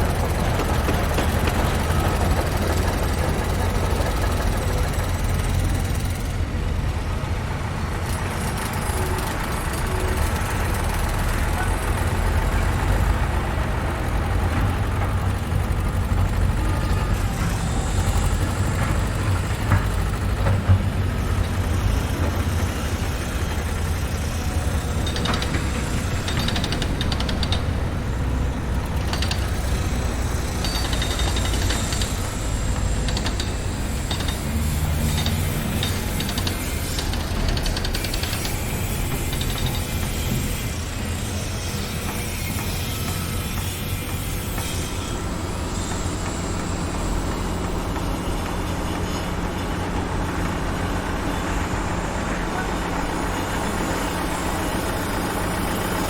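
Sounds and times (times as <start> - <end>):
heavy engines rumbling: 0.0 - 56.0.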